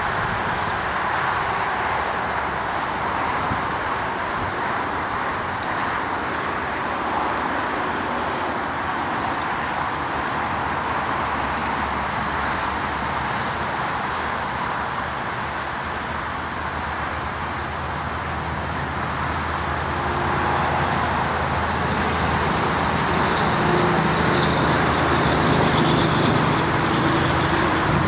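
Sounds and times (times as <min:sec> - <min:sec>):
distant electric trains: 0:00.0 - 0:28.0.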